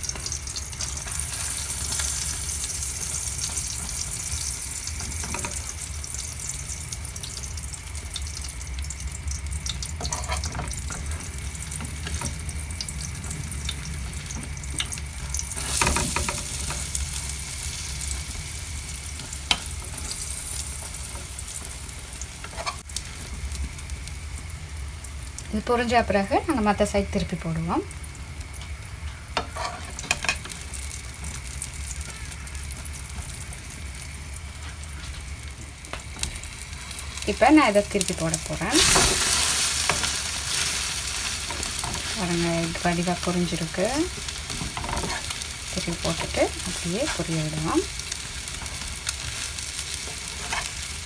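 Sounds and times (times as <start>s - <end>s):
food sizzling in oil: 0.0s - 51.0s.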